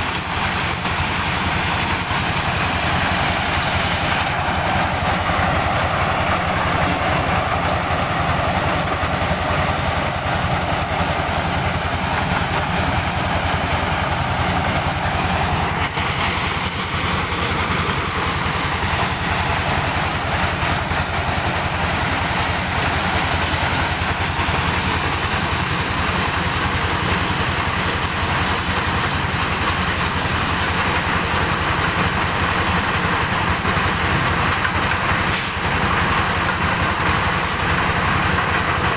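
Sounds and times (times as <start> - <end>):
corn sheller engine humming: 0.0 - 38.9
hiss of kernels pouring: 0.0 - 38.9.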